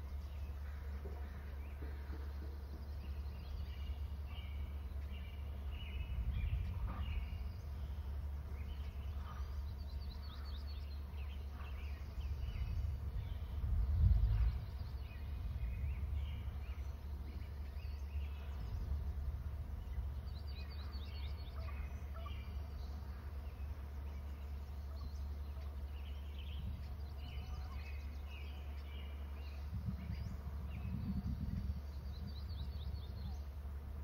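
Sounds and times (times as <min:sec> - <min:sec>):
low background rumble: 0:00.0 - 0:34.0
small birds chirping and trilling: 0:00.0 - 0:34.0.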